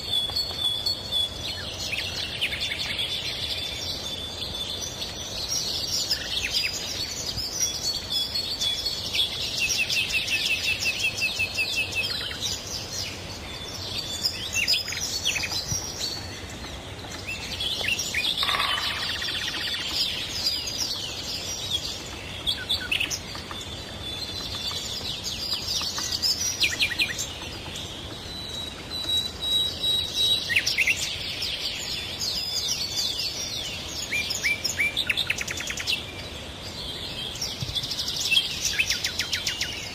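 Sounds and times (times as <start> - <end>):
birds singing and calling: 0.0 - 39.9
steady background hiss: 0.0 - 39.9.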